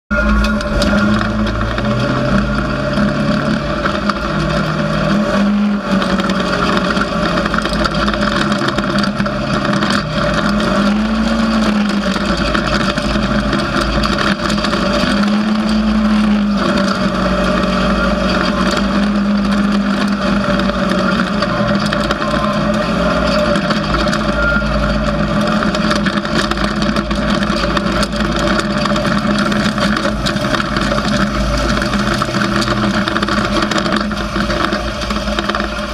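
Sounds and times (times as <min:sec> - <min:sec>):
off-road vehicle engine revving: 0:00.1 - 0:35.9
wind and tyre noise: 0:00.1 - 0:35.9.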